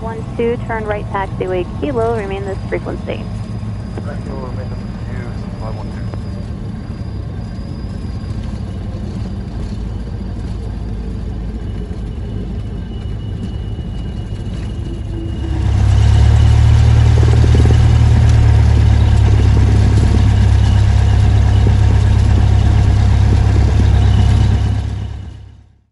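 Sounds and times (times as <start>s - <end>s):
propeller plane engine running: 0.0s - 25.8s.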